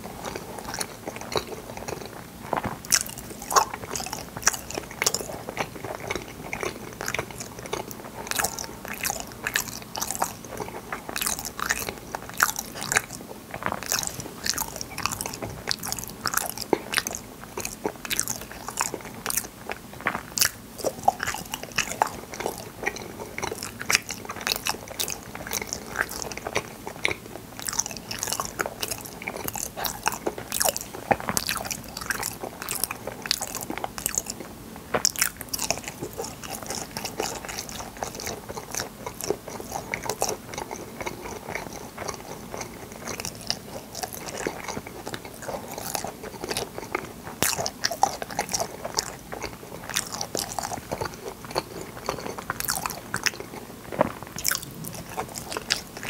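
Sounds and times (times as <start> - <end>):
chewing and biting jelly: 0.0 - 56.0.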